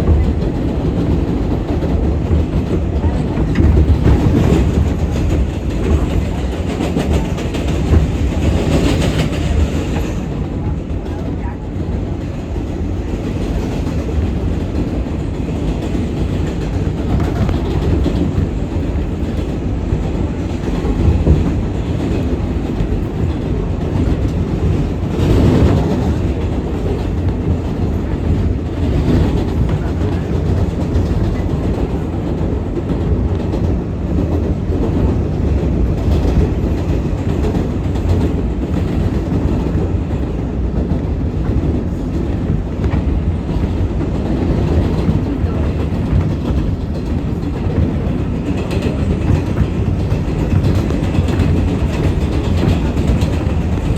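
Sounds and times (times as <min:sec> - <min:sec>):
clickety-clack over rail joints: 0:00.0 - 0:53.9
subway train rumbling on rails: 0:00.0 - 0:53.9.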